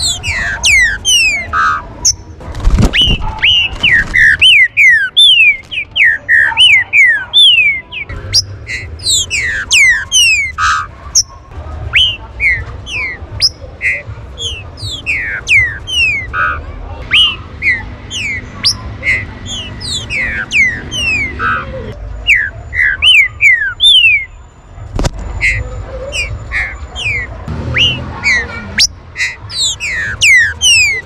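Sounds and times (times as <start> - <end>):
birds whistling calls: 0.0 - 24.4, 25.4 - 31.0.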